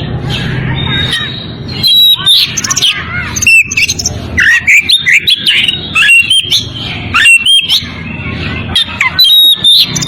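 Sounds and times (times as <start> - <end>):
bird singing whistled notes: 0.4 - 7.9, 8.8 - 10.0.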